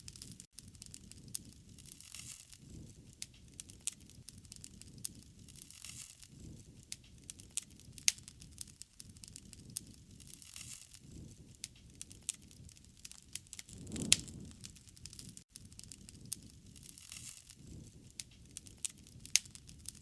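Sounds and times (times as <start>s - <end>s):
wood fire crackling: 2.8s - 20.0s.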